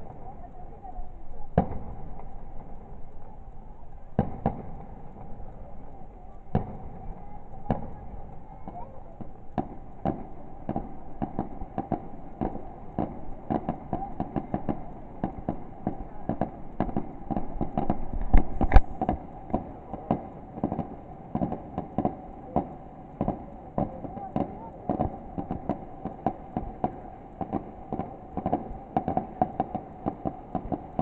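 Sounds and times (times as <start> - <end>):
fireworks bangs: 0.0 - 3.4, 4.0 - 31.0
heavy fireworks booms: 0.0 - 3.4, 4.0 - 31.0.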